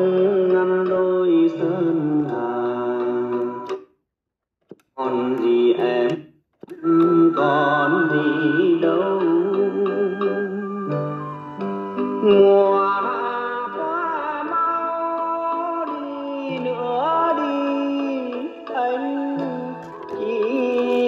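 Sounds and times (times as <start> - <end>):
song through radio speaker: 0.0 - 3.8, 5.0 - 21.0.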